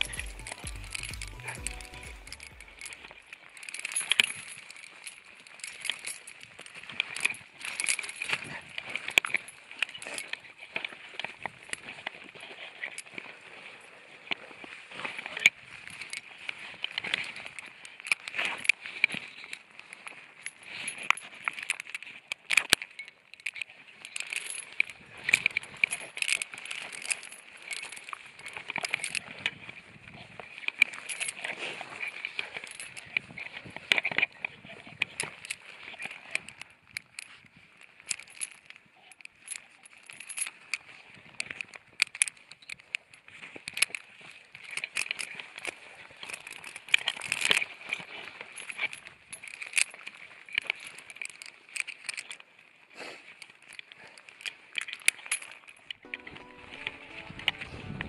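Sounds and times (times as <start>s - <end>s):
heavy chain clinking on rock: 0.0s - 58.0s.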